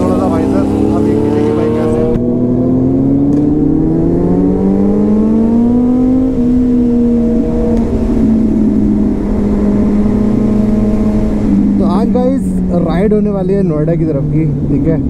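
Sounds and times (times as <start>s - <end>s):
motorcycle engine accelerating: 0.0s - 15.0s
wind and road rumble: 0.0s - 15.0s.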